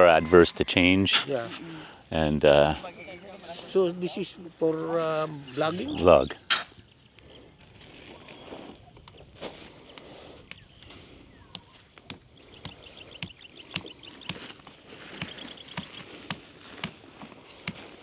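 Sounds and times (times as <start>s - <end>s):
bird trilling: 0.0s - 18.0s.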